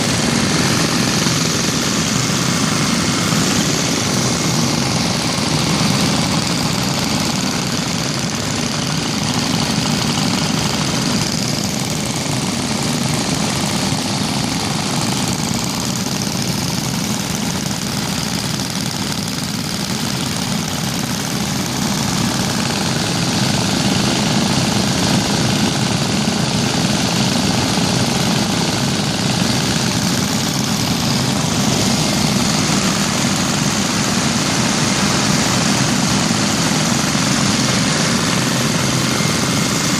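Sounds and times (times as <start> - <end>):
many small engines chattering: 0.0 - 39.9.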